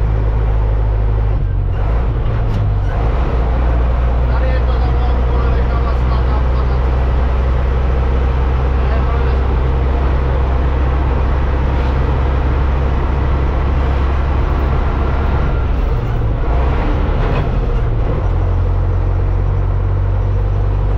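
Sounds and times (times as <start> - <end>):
truck diesel engine droning: 0.0 - 20.9.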